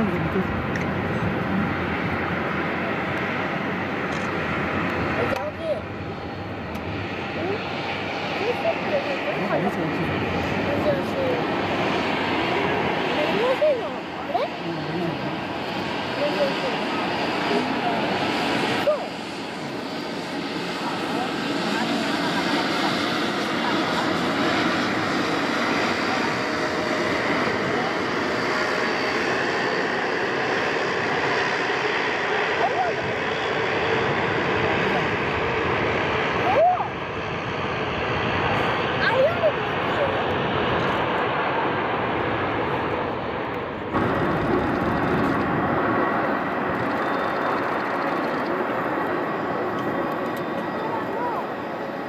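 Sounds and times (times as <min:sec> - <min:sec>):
jet engines rushing: 0:00.0 - 0:52.0.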